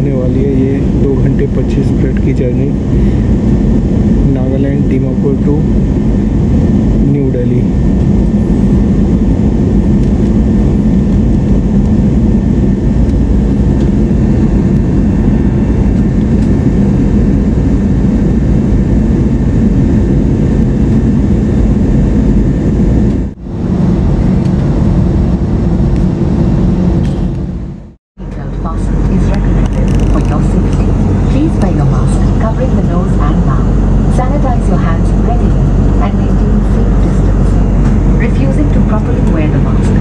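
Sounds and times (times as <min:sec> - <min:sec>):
faint steady hums: 0:00.0 - 0:40.0
jet engines and airflow rushing: 0:00.0 - 0:40.0.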